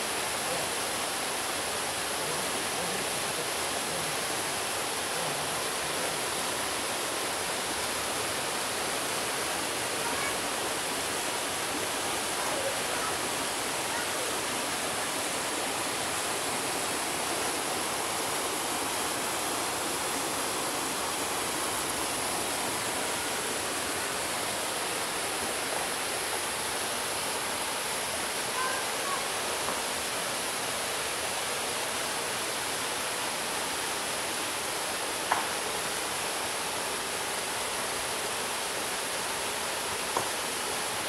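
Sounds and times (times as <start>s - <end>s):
waterfall pouring into pool: 0.0s - 41.0s.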